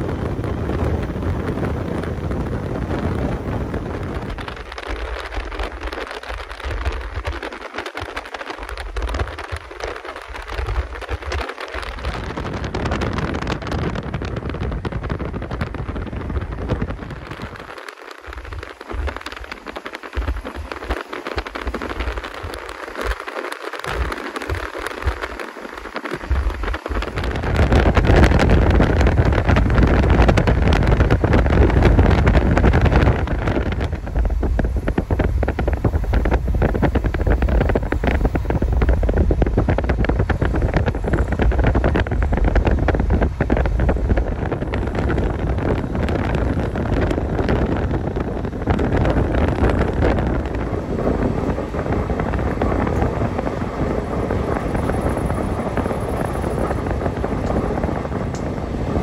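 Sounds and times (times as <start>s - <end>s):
rushing wind: 0.0s - 59.0s
train wheels rumbling on rail: 0.0s - 59.0s
wind buffeting microphone: 0.0s - 59.0s.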